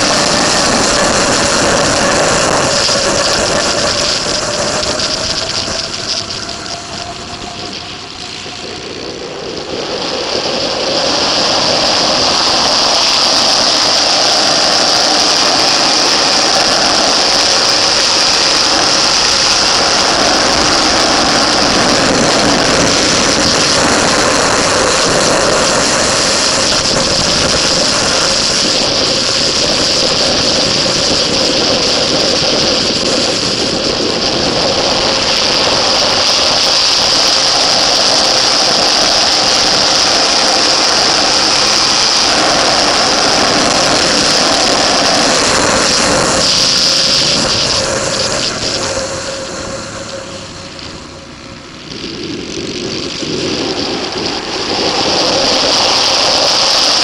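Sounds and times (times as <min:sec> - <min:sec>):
motorcycle engine running hard: 0:00.0 - 0:57.0
wind rush: 0:00.0 - 0:57.0.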